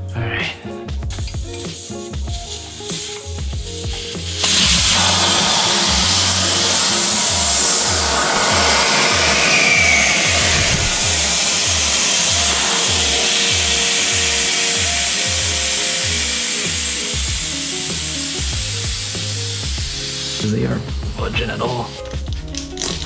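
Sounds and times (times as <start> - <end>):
music with deep bass-drum beat: 0.0 - 23.0.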